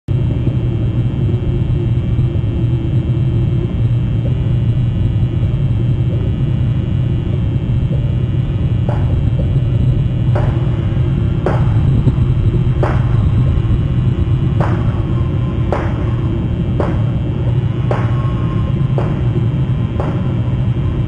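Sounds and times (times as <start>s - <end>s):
steady low rumble: 0.1s - 21.0s.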